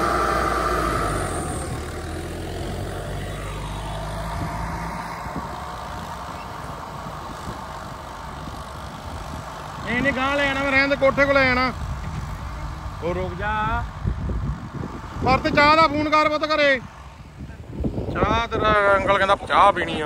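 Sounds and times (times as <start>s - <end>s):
planter whine: 0.0s - 20.0s
tractor engine drone: 0.0s - 20.0s.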